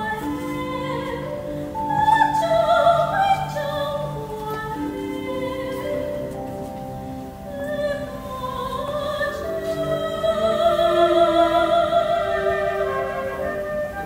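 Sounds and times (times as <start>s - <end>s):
chamber orchestra strings: 0.0s - 14.0s
operatic soprano singing: 0.0s - 14.0s.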